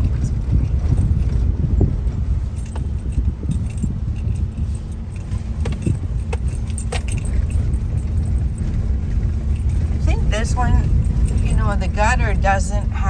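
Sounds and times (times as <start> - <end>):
car cabin rumble: 0.0 - 13.0
metallic jingling and rattles: 0.0 - 13.0.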